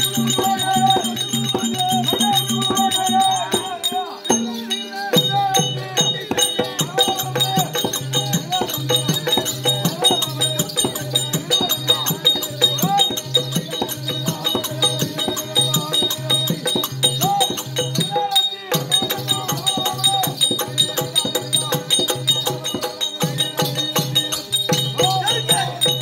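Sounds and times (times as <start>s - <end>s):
hand drums beating: 0.0s - 26.0s
jingling metal percussion: 0.0s - 26.0s.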